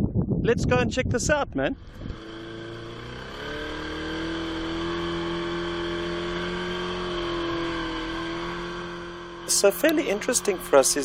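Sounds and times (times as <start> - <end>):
boat motor running: 1.8 - 11.0.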